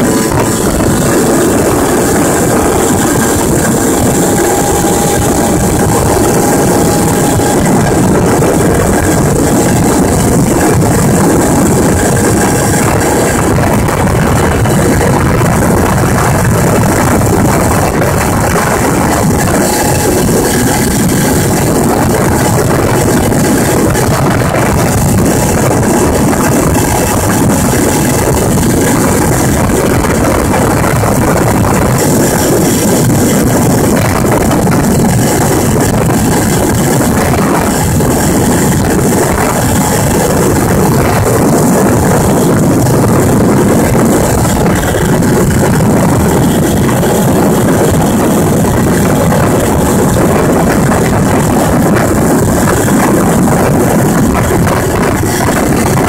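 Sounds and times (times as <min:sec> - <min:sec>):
two-stroke moped engine running: 0:00.0 - 0:56.0.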